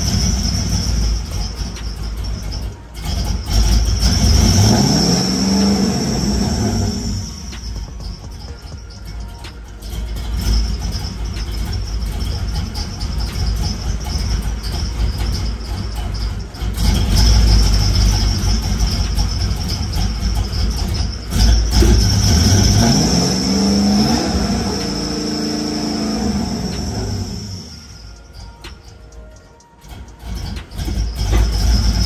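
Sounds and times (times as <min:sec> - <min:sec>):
car engine running and revving: 0:00.0 - 0:32.0
high-pitched whine: 0:00.0 - 0:32.0.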